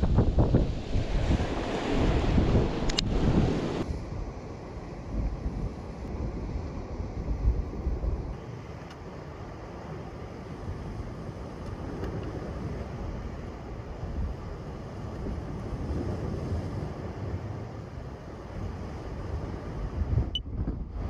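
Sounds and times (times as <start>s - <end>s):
sea surf against rocks: 0.0s - 21.0s
wind on microphone: 0.0s - 21.0s.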